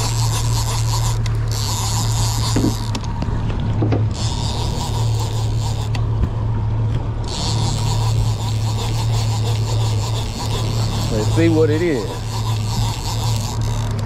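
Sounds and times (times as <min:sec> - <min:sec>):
fishing reel rasping: 0:00.0 - 0:03.2, 0:04.1 - 0:06.2, 0:07.2 - 0:14.0
outboard motor running: 0:00.0 - 0:14.0.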